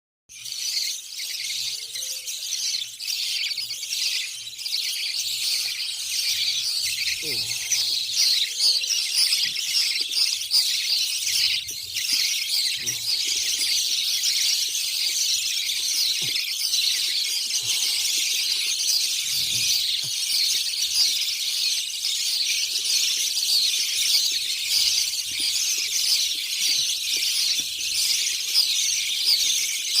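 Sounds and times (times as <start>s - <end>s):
small birds chirping: 0.3s - 30.0s.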